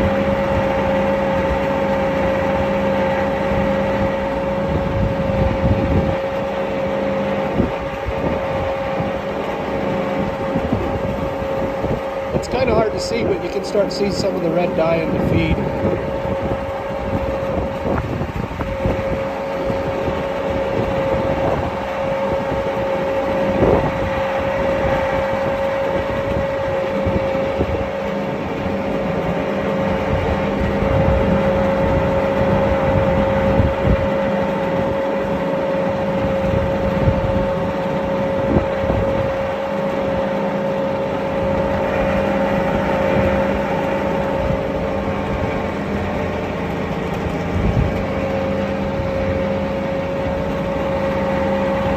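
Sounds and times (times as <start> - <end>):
feed mixer humming and whining: 0.0 - 51.9.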